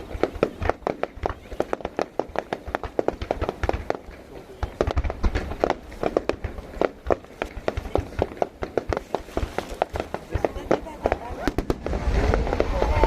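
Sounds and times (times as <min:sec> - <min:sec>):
fireworks cracking and popping: 0:00.0 - 0:13.0
low firework booms: 0:00.0 - 0:13.0.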